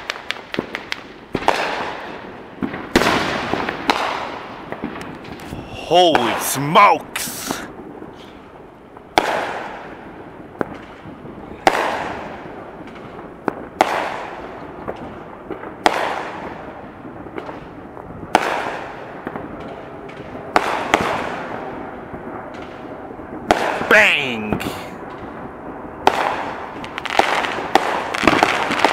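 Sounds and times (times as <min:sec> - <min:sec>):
faint fireworks pops: 0:00.0 - 0:08.5, 0:09.1 - 0:10.0, 0:10.6 - 0:28.9
fireworks bangs with echo: 0:00.0 - 0:28.9.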